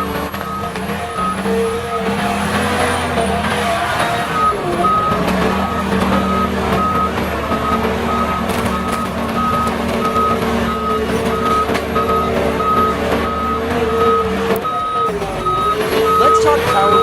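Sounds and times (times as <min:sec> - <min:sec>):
heavy machine engine running: 0:00.0 - 0:17.0
reversing alarm beeping: 0:00.0 - 0:17.0.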